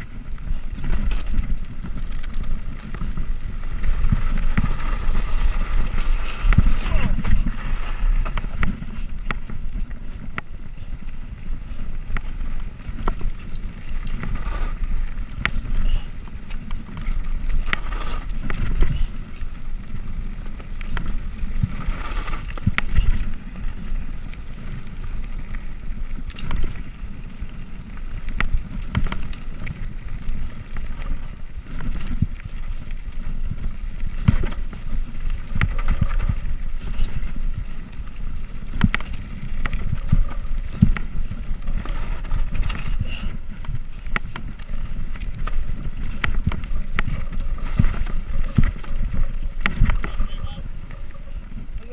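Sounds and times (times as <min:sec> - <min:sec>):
wind rumbling on microphone: 0:00.0 - 0:51.9.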